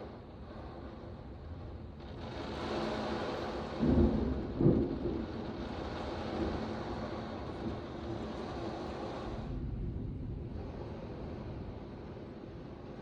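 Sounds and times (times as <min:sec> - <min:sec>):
wind: 0:00.0 - 0:13.0
heavy rain: 0:02.0 - 0:13.0.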